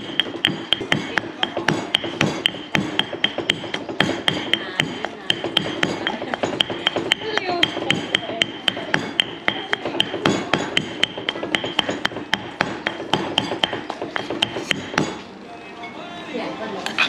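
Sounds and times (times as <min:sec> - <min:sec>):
stone pestle pounding in mortar: 0:00.0 - 0:15.2.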